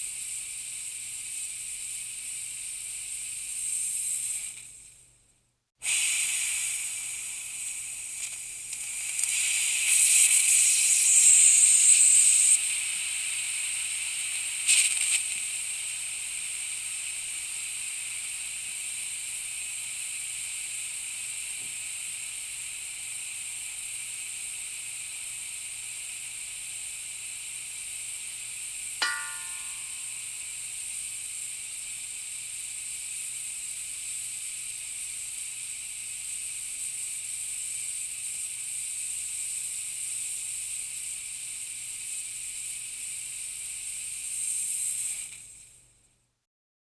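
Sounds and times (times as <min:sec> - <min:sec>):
compressed air hissing from tank: 0:00.0 - 0:04.8, 0:05.8 - 0:28.8, 0:29.8 - 0:45.8.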